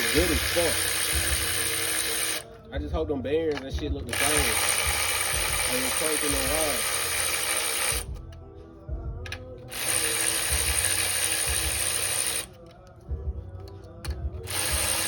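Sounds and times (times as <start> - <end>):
ratchet wrench clicking: 0.0 - 2.5, 3.5 - 8.4, 9.3 - 13.0, 13.6 - 15.0.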